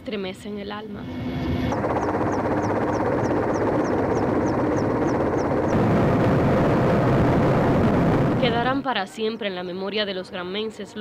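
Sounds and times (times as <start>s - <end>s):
helicopter rotor and engines: 0.0s - 11.0s.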